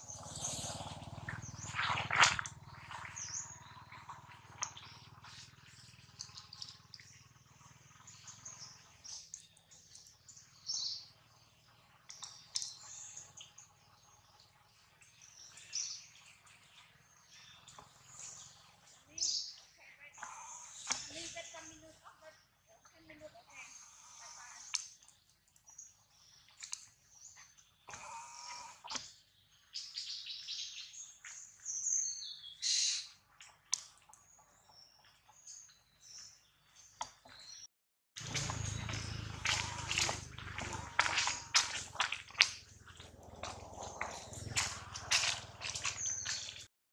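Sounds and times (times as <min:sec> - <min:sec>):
birds chirping and trilling: 0:00.0 - 0:46.7.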